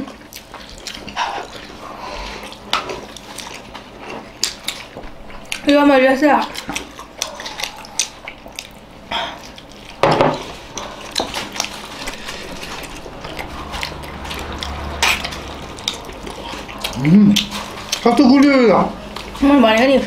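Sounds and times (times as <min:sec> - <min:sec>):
chewing clicks and smacks: 0:00.3 - 0:01.7, 0:02.4 - 0:05.7, 0:06.4 - 0:10.0, 0:10.7 - 0:19.9.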